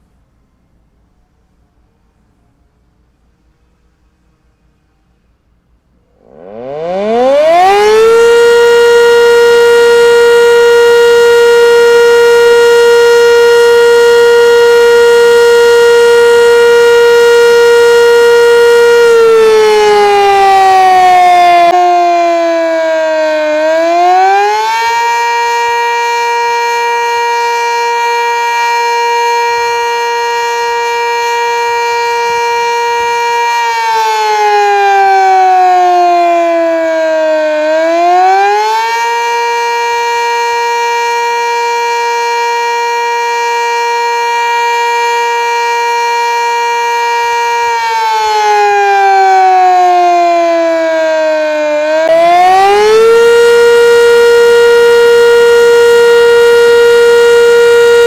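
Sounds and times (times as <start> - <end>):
warning siren wailing: 6.0 - 58.0.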